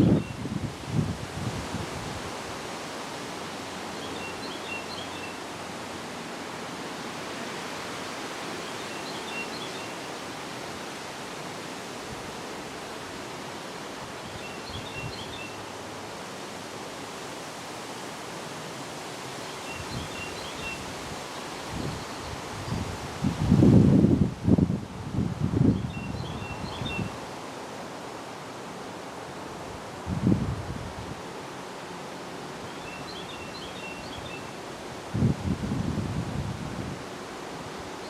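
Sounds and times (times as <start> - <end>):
wind rustling leaves: 0.0 - 38.0.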